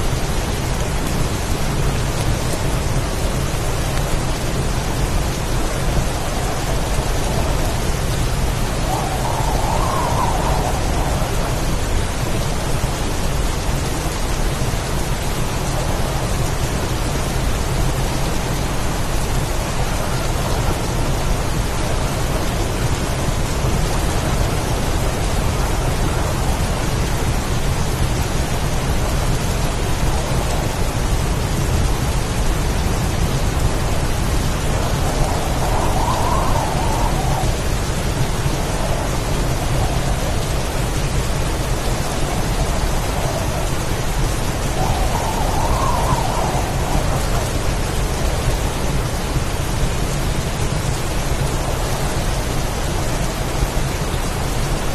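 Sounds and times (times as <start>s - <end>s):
heavy rain pouring: 0.0s - 54.9s
low storm rumble: 0.0s - 54.9s.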